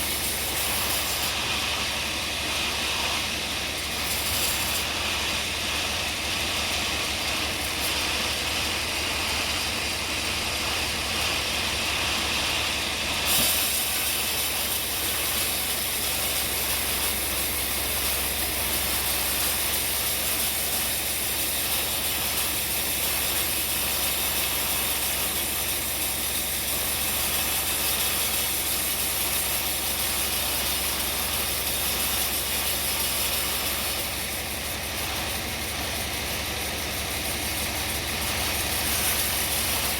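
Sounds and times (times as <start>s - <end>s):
saw cutting a log: 0.0s - 39.9s.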